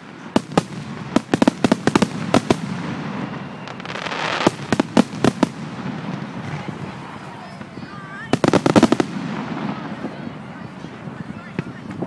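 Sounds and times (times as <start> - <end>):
firework bangs: 0.0 - 12.0
firework crackling hiss: 0.0 - 12.0.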